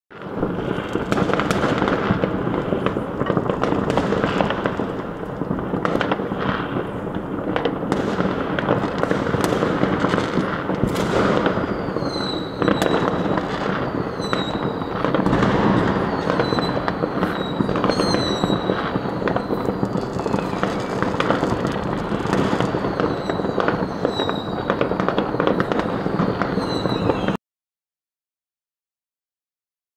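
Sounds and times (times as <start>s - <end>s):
fireworks banging and crackling: 0.1s - 27.4s
falling firework whistles: 0.2s - 27.4s.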